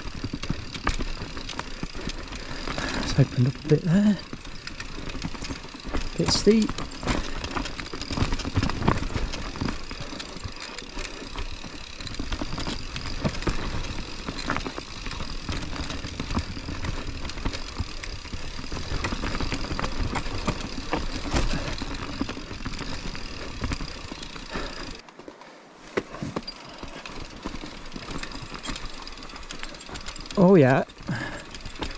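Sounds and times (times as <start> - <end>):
bike knocking and rattling: 0.0 - 31.9
bike tyre and drivetrain noise: 0.0 - 31.9.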